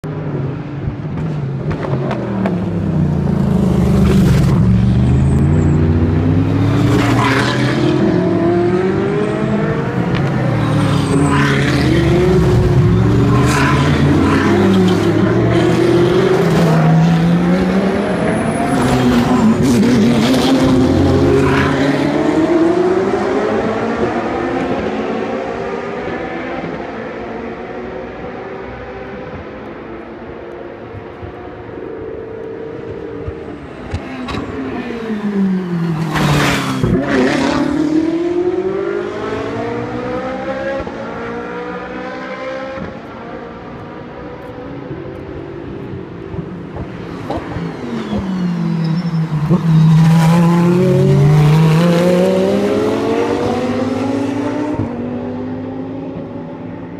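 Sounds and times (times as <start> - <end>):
racing car engines braking and accelerating: 0.3 - 56.9.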